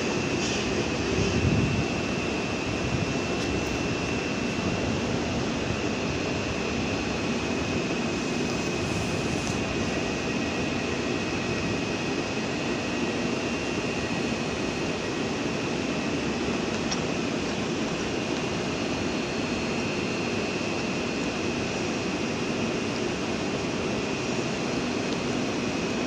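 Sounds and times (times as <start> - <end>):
high whine: 0.0 - 22.4
train mechanical hum: 0.0 - 26.0.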